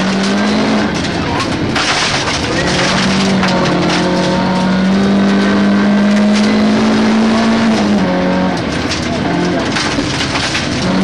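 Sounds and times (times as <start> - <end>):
car engine at full throttle: 0.0 - 11.0
car rattling on gravel: 0.0 - 11.0.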